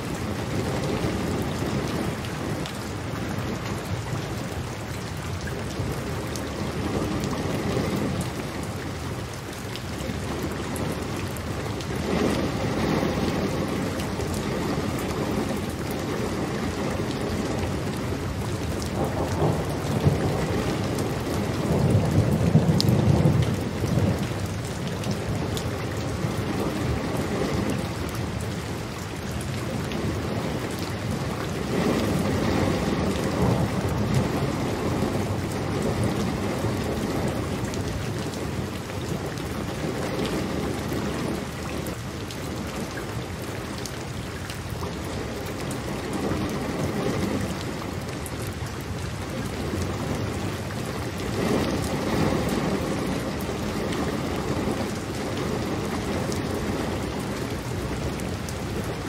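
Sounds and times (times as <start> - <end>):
thunder rumbling: 0.0 - 4.6, 10.0 - 28.9, 29.6 - 42.0, 44.9 - 59.0
heavy rainfall: 0.0 - 59.0.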